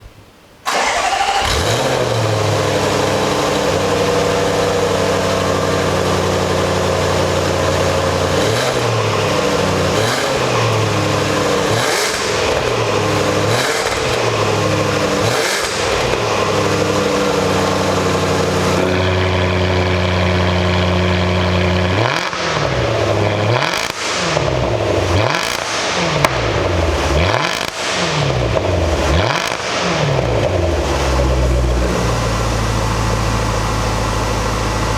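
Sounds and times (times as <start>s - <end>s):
car engine idling and revving: 0.7s - 34.9s.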